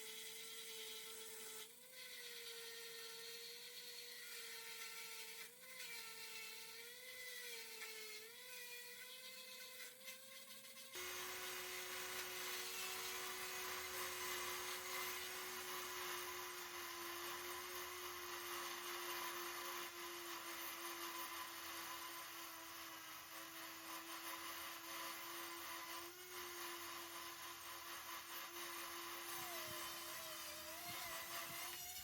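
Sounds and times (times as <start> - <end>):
electric power tool whining: 0.0 - 32.0.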